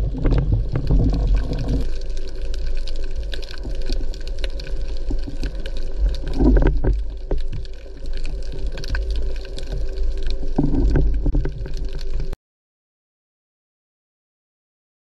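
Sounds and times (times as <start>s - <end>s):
muffled underwater rumble: 0.0s - 12.4s
scattered crackles: 0.0s - 12.4s.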